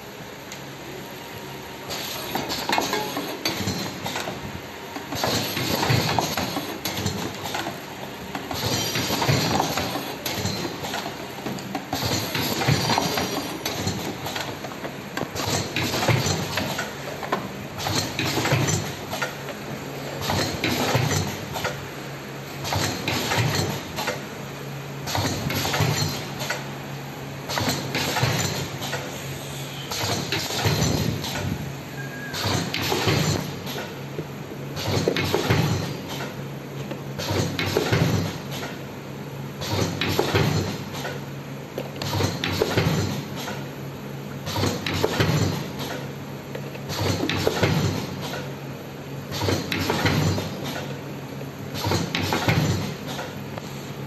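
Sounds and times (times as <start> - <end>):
mechanical clatter and clicks: 1.9 - 21.9, 22.6 - 24.3, 25.0 - 26.7, 27.5 - 29.1, 29.9 - 31.6, 32.4 - 34.0, 34.8 - 38.8, 39.6 - 41.2, 41.8 - 43.7, 44.4 - 48.6, 49.3 - 51.0, 51.7 - 53.6.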